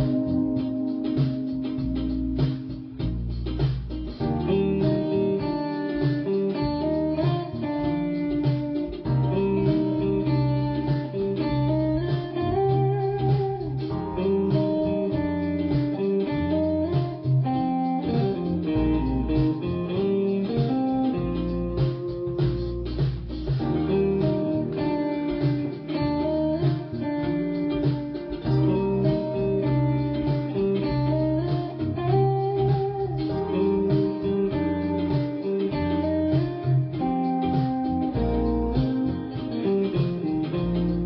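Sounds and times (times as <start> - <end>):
bass line: 0.0 - 41.0
blues guitar instrumental: 0.0 - 41.0.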